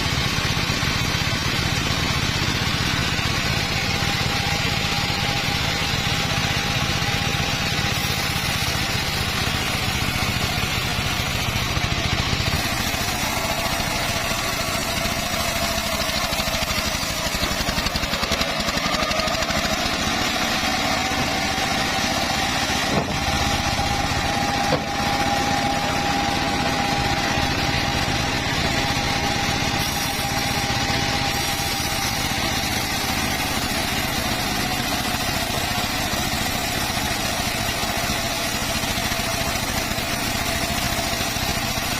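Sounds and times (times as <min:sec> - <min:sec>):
circular saw cutting wood: 0:00.0 - 0:41.9.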